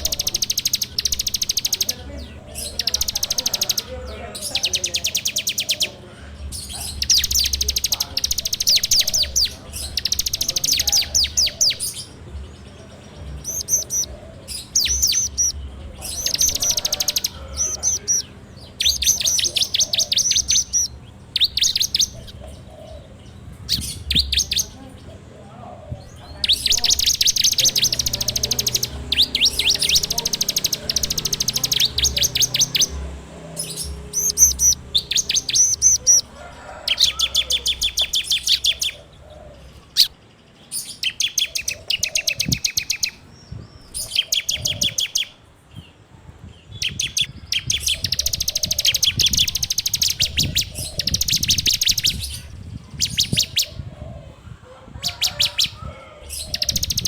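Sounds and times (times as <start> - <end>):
bird singing rattling trills: 0.0 - 24.8, 26.1 - 45.4, 46.7 - 53.9, 55.0 - 57.0.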